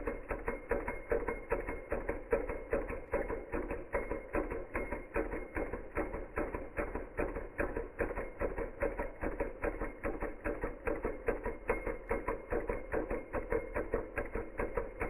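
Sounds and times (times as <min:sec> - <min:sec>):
hot-air engine clicking knock: 0:00.0 - 0:15.0.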